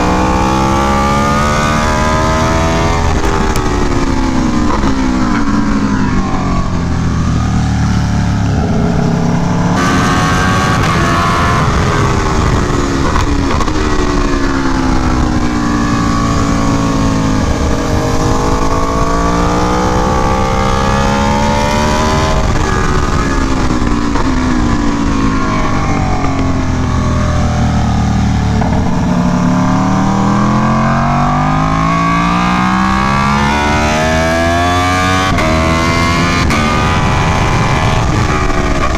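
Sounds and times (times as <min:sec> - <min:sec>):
motorcycle engine revving: 0:00.0 - 0:38.9
wind rush: 0:00.0 - 0:38.9.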